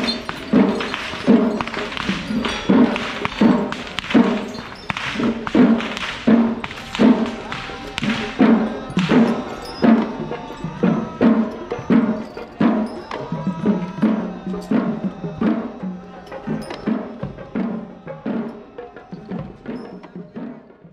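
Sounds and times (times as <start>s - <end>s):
held tones: 0.0s - 20.1s
slow drum beat: 0.0s - 20.4s.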